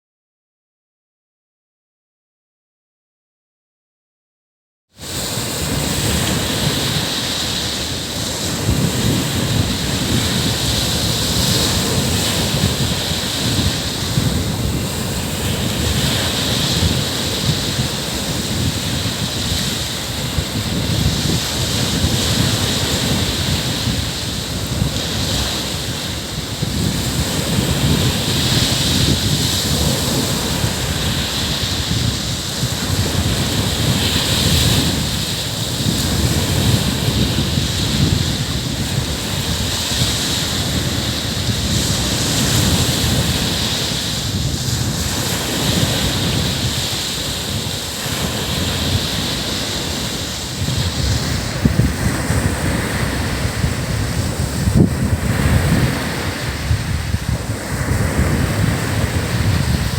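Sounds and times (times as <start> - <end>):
ocean waves breaking on beach: 5.0 - 59.9
wind buffeting microphone: 5.0 - 59.9.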